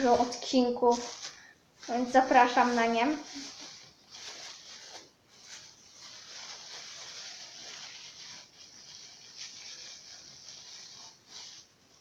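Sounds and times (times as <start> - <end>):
hands kneading modelling dough: 0.0 - 12.0.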